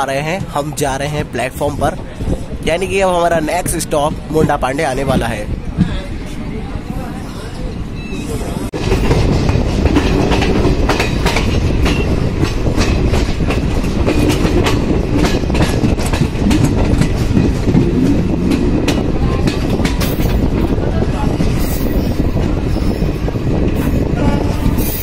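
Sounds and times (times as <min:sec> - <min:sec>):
clickety-clack over rail joints: 0:00.0 - 0:02.5, 0:03.6 - 0:06.4, 0:08.7 - 0:25.0
train wheels rumbling on track: 0:00.0 - 0:25.0.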